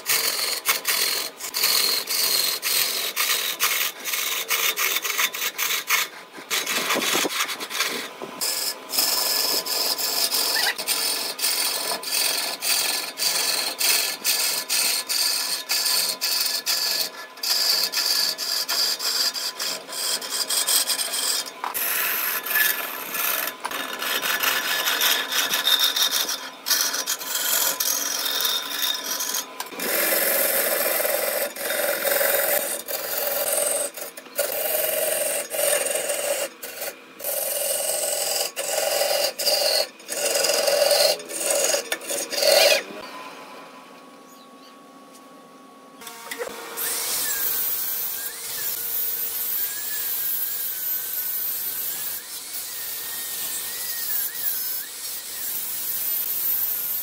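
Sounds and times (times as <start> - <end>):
lathe chisel scraping wood: 0.0 - 43.1, 46.3 - 57.0.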